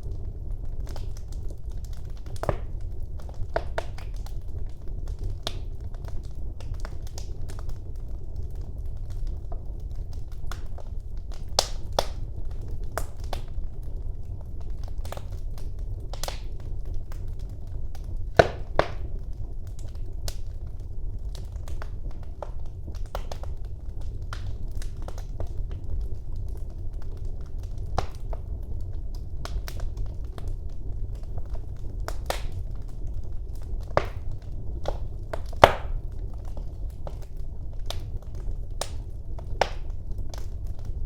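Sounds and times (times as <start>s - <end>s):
fire crackling and popping: 0.0s - 41.0s
fire rumbling: 0.0s - 41.0s.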